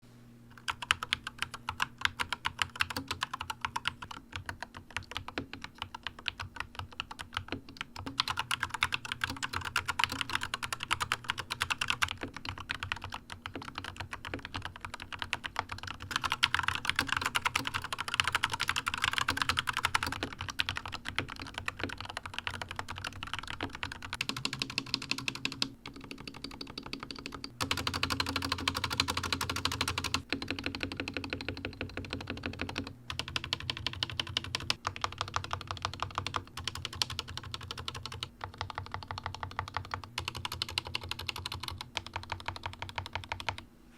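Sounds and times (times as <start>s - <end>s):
fast keyboard typing clacks: 0.6s - 43.6s.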